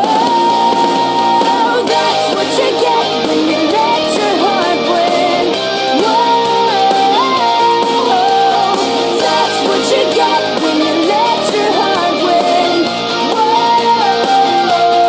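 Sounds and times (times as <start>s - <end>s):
pop-rock song with guitar: 0.0s - 15.0s.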